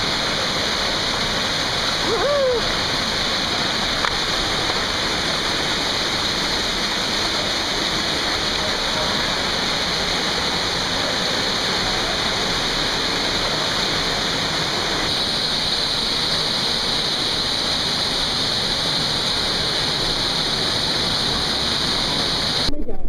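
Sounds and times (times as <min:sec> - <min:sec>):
creek water rushing over rocks: 0:00.0 - 0:22.7.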